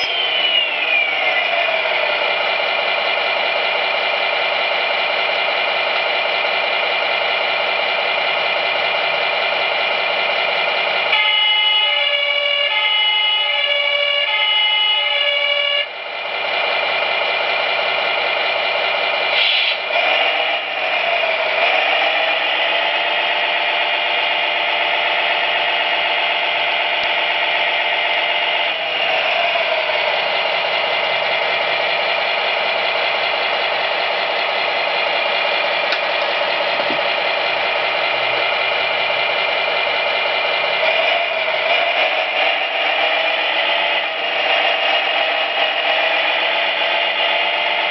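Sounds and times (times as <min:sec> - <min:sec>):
simulated truck engine revving: 0:00.0 - 0:47.9.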